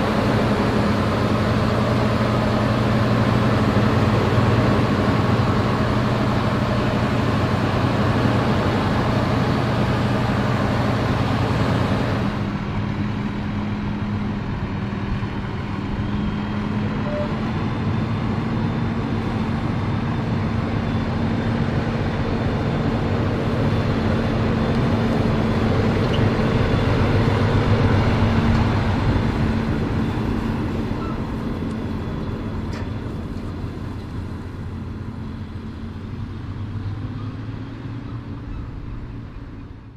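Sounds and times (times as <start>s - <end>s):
combine harvester humming: 0.0s - 39.9s.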